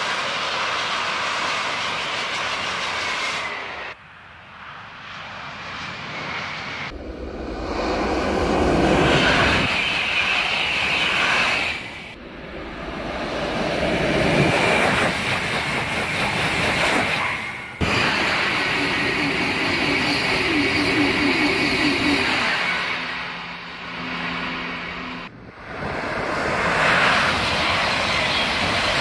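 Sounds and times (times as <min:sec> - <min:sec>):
high-speed train whooshing past: 0:00.0 - 0:29.0.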